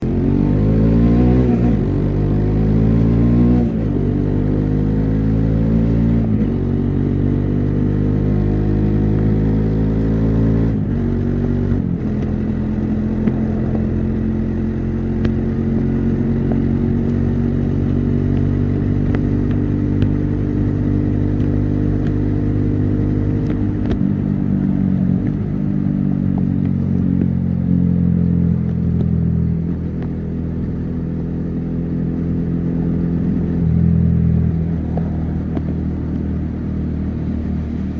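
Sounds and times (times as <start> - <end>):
motorcycle engine shifting gears: 0.0 - 37.9.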